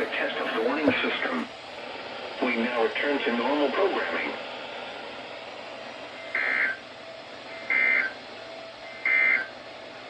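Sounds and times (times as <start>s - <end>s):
faint radio hiss: 0.0s - 10.0s.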